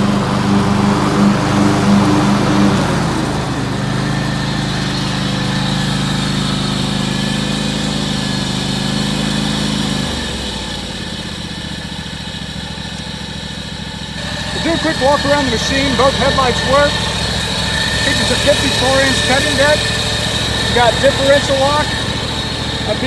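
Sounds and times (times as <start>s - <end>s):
garden tractor engine running: 0.0s - 23.0s.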